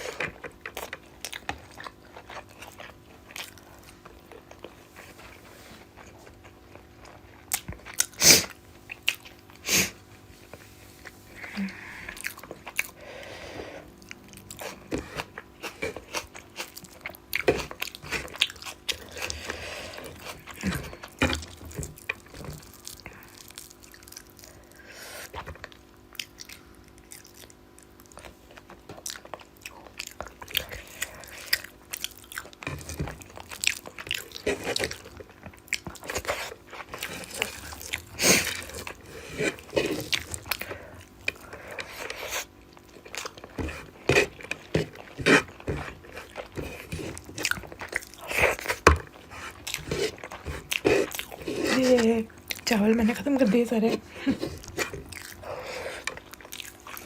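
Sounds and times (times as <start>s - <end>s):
chewing and mouth smacks: 0.0s - 9.6s, 10.4s - 13.0s, 14.0s - 52.9s, 54.2s - 57.0s
faint hum: 0.0s - 57.0s.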